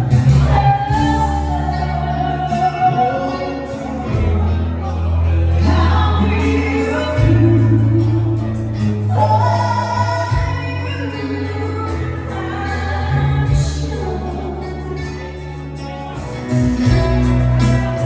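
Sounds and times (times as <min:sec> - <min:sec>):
woman singing: 0:00.0 - 0:04.9, 0:05.5 - 0:18.0
live band playing: 0:00.0 - 0:18.0
low bass notes: 0:00.0 - 0:18.0.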